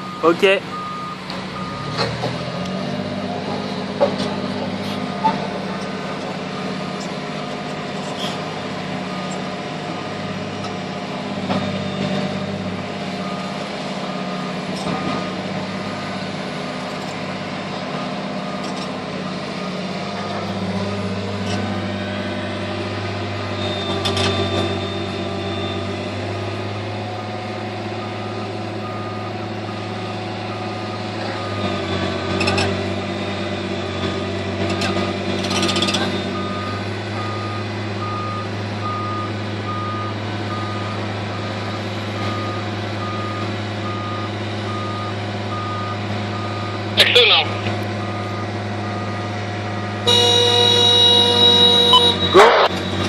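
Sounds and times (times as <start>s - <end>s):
diesel machinery engine running: 0.0s - 53.0s.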